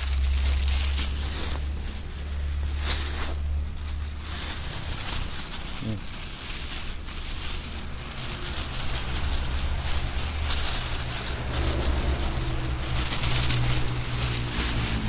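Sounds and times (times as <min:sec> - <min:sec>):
engine humming: 0:00.0 - 0:15.0
plastic bags rustling: 0:00.0 - 0:15.0.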